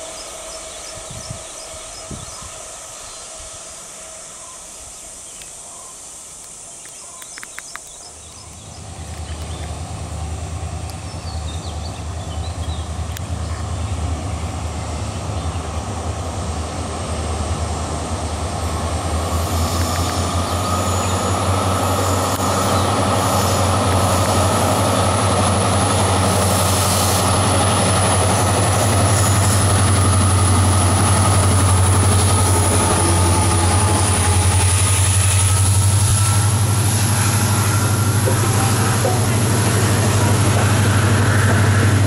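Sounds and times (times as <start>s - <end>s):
diesel locomotive engine drone: 0.0s - 42.0s
train coaches rolling by: 0.0s - 42.0s.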